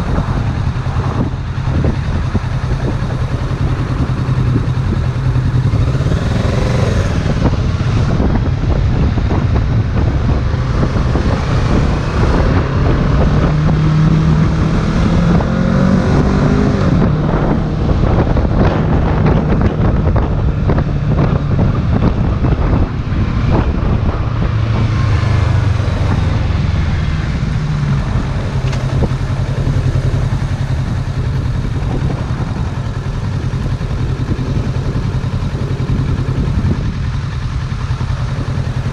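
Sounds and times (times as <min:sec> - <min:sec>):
motorcycle engine accelerating: 0:00.0 - 0:38.9
wind on microphone: 0:00.0 - 0:38.9.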